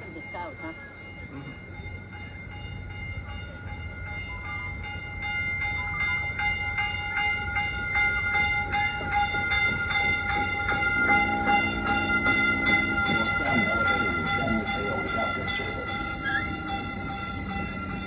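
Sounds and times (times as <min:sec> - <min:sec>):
bell ringing quickly: 0:00.0 - 0:18.0
electric train rumbling: 0:00.0 - 0:18.0.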